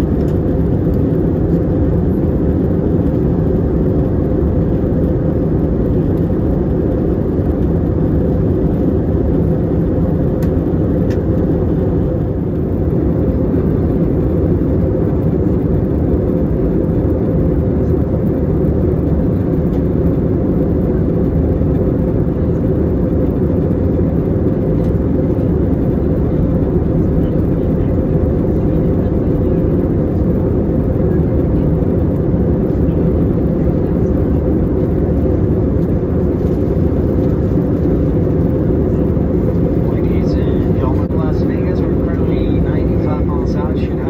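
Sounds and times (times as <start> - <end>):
airliner cabin roar: 0.0 - 44.0.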